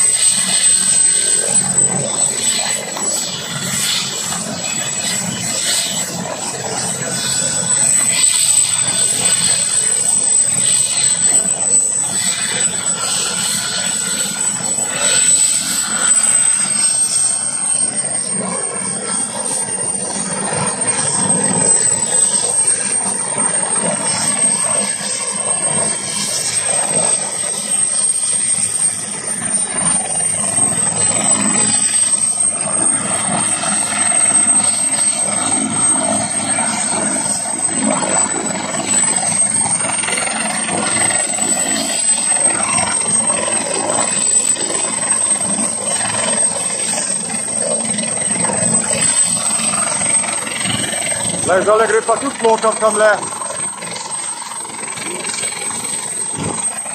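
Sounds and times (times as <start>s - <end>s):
helicopter rotor and engine: 0.0s - 56.9s
high turbine whine: 0.0s - 56.9s.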